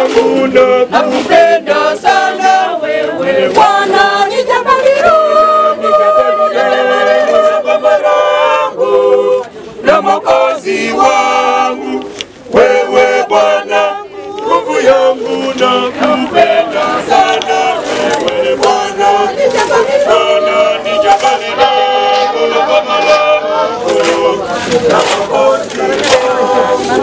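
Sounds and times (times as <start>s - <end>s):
group singing unaccompanied: 0.0s - 27.0s.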